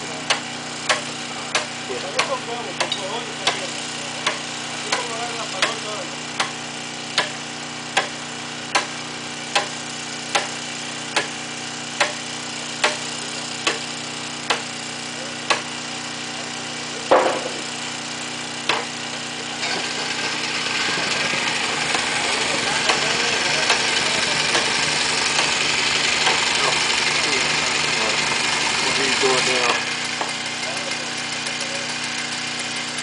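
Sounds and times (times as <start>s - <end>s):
engine idling hum: 0.0s - 33.0s.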